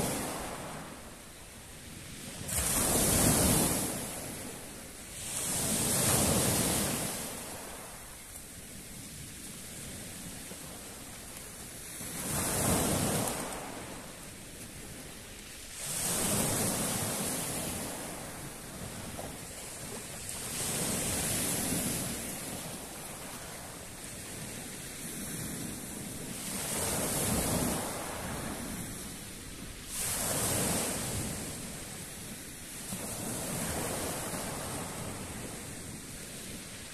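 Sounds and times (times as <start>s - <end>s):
waves breaking on pebble beach: 0.0s - 1.2s, 1.9s - 36.9s.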